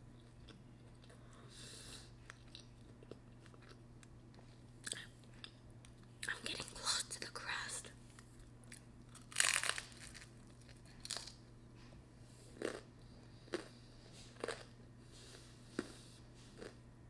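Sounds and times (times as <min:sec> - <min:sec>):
person chewing crunchy crust: 0:00.2 - 0:06.8, 0:08.4 - 0:11.4, 0:12.3 - 0:16.8.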